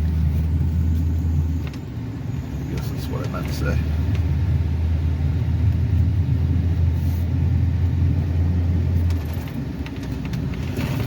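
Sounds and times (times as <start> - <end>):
truck engine low drone: 0.0 - 11.0.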